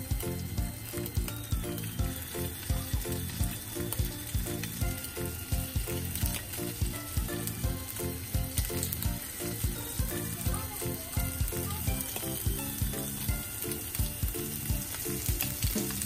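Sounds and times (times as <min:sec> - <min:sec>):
background music with beat: 0:00.0 - 0:16.0
patties sizzling in oil: 0:00.0 - 0:16.0.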